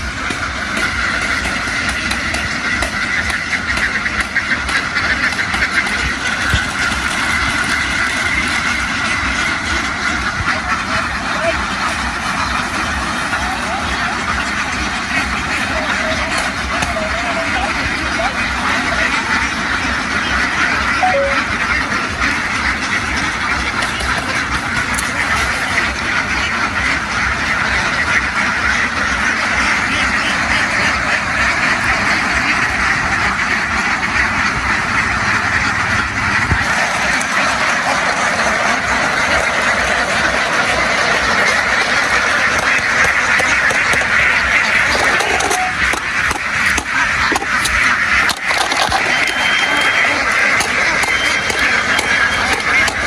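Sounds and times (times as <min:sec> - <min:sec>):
flock of ducks quacking: 0:00.0 - 0:53.0.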